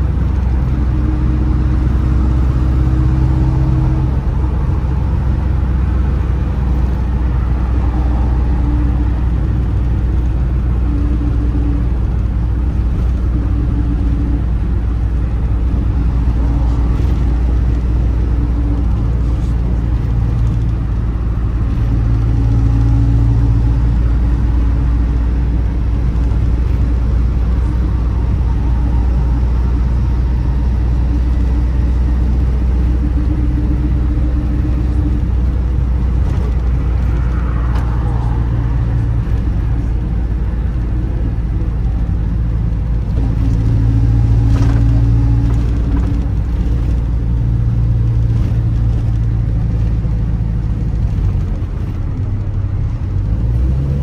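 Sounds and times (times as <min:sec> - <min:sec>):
engine hum: 0:00.0 - 0:54.0
road and engine rumble: 0:00.0 - 0:54.0.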